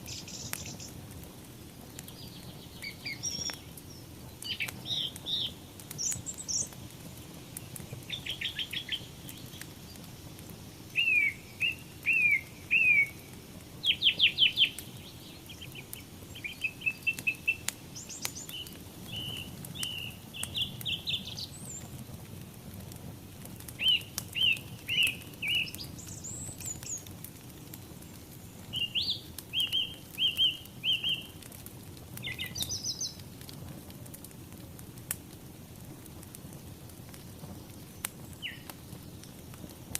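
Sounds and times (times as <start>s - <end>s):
songbirds chirping: 0.0s - 22.3s, 23.3s - 33.3s, 36.8s - 39.6s
wood fire crackling: 0.0s - 39.9s.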